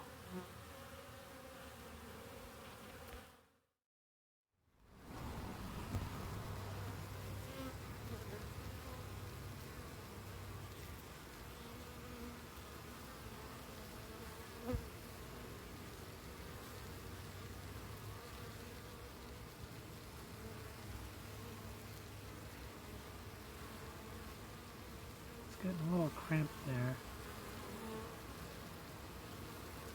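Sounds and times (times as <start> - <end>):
honeybees buzzing: 0.0 - 3.4, 5.1 - 29.9.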